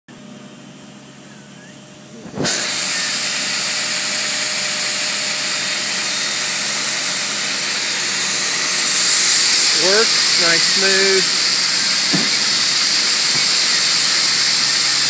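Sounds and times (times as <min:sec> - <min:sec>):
stroke sander running: 0:02.1 - 0:15.0.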